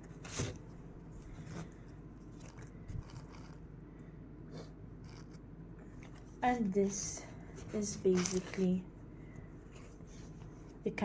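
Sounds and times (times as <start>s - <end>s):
soft handling clicks and crinkles: 0.0s - 4.1s, 5.0s - 10.9s.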